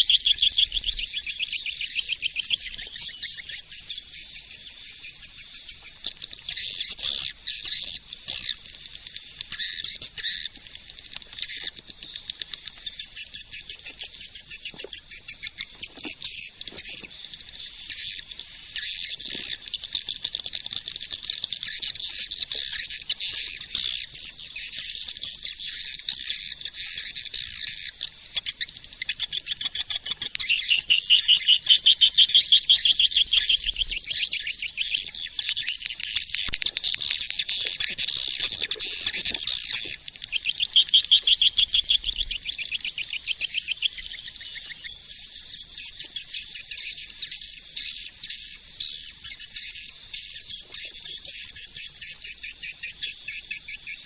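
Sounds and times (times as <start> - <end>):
swiftlets twittering chirps: 0.0 - 54.0.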